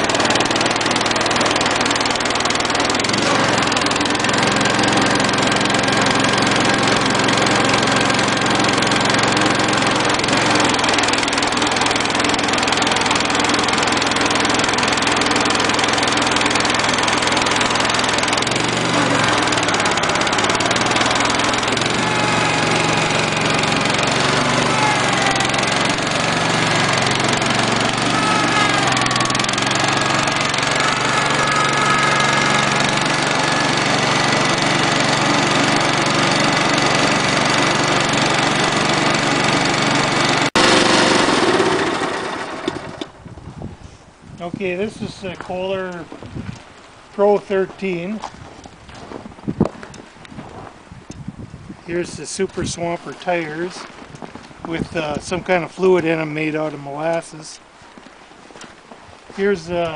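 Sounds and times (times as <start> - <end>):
small tractor engine running: 0.0 - 43.4, 44.4 - 51.3, 51.9 - 59.9.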